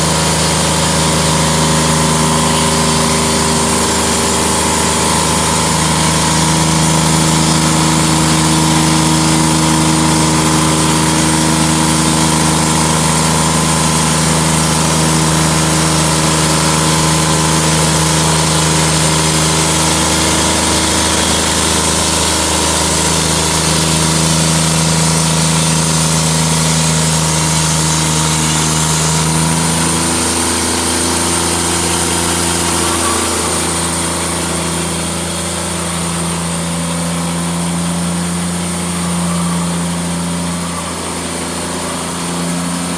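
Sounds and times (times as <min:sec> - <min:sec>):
band blade sawing log: 0:00.0 - 0:42.9
sawmill engine running: 0:00.0 - 0:42.9.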